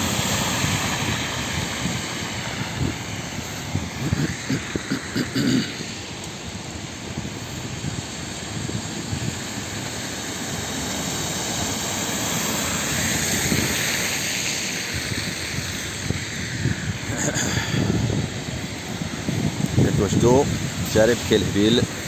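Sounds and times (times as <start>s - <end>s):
steady wash of noise: 0.0s - 22.0s
tyres hissing through water: 0.0s - 22.0s.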